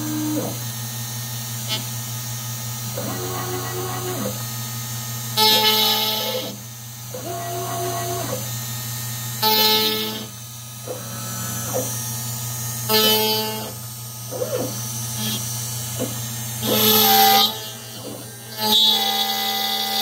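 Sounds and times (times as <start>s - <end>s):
router motors whining: 0.0s - 20.0s
steady machine hum: 0.0s - 20.0s.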